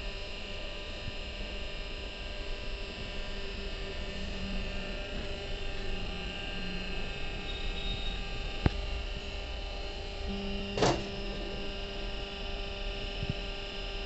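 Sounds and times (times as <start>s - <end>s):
electric motor and pump humming: 0.0s - 14.0s.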